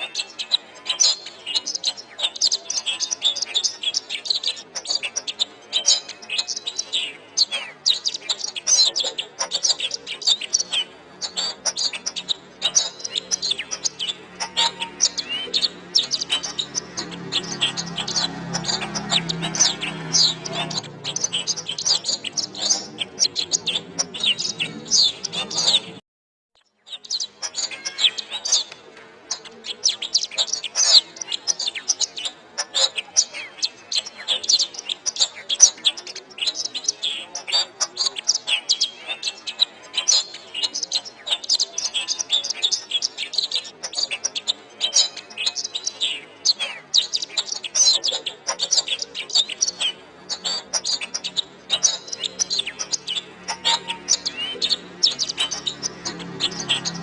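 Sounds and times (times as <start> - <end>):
canary singing: 0.0 - 26.0, 26.6 - 57.0.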